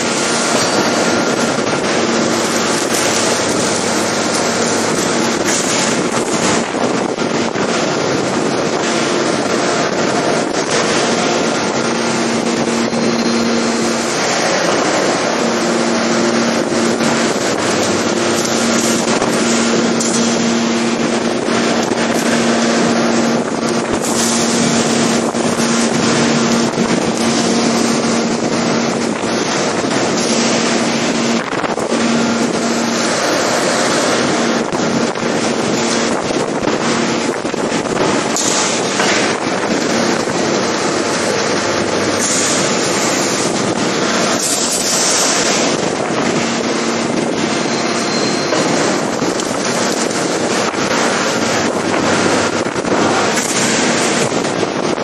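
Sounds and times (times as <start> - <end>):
forging press machine noise: 0.0 - 55.0.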